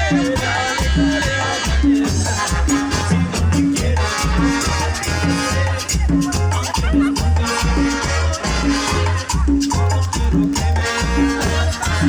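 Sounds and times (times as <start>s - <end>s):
latin dance band playing: 0.0s - 12.0s.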